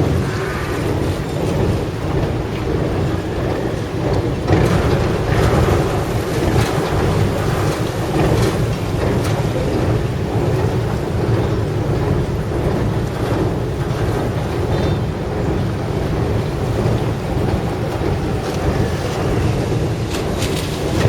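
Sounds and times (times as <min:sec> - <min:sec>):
boat engine rumbling: 0:00.0 - 0:21.0
rushing noise: 0:00.0 - 0:21.0.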